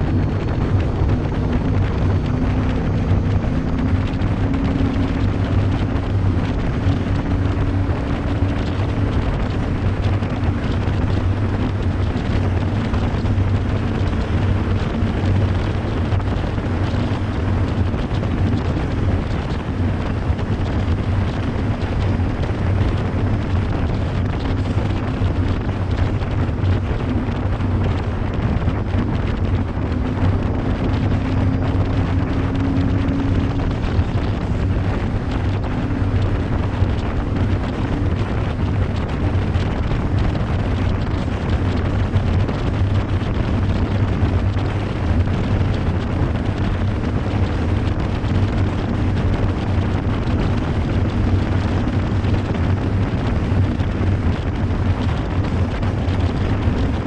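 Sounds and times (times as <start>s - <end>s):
boat engine drone: 0.0s - 57.0s
water rushing along hull: 0.0s - 57.0s
wind on microphone: 0.0s - 57.0s.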